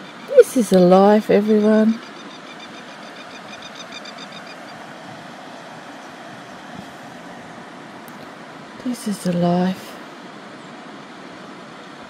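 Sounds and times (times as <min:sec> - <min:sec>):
river rushing: 0:02.0 - 0:12.0.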